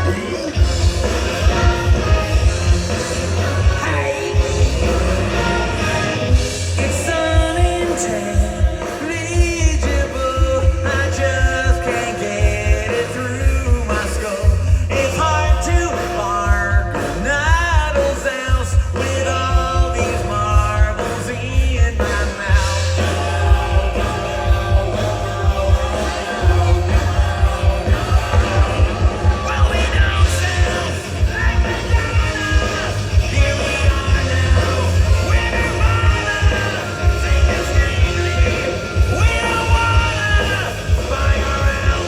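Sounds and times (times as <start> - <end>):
man singing: 0.0 - 42.0
rock band playing live: 0.0 - 42.0.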